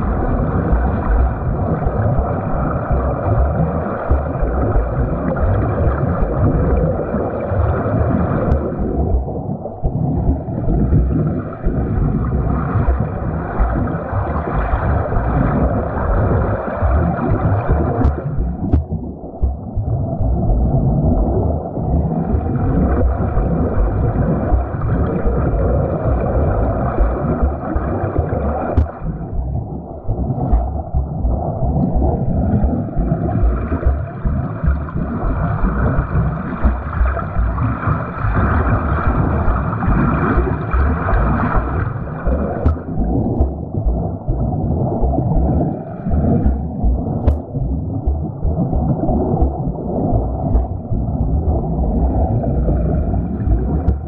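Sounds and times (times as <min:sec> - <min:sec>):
water churned by swimmer: 0:00.0 - 0:54.0.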